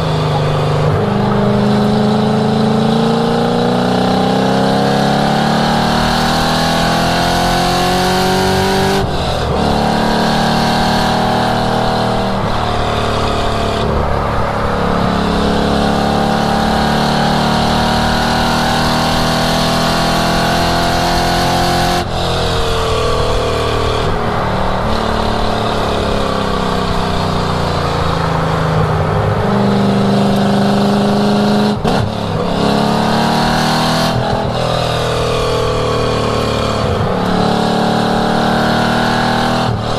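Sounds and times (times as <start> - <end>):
car engine accelerating and shifting: 0.0 - 39.9.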